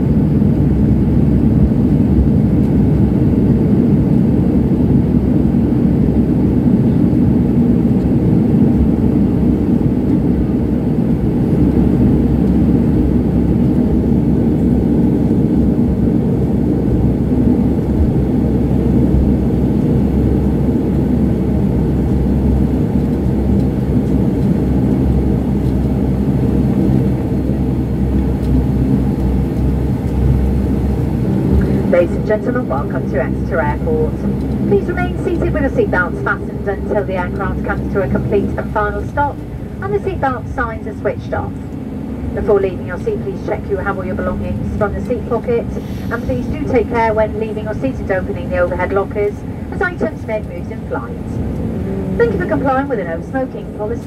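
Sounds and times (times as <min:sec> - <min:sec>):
turboprop engine drone in cabin: 0:00.0 - 0:54.0.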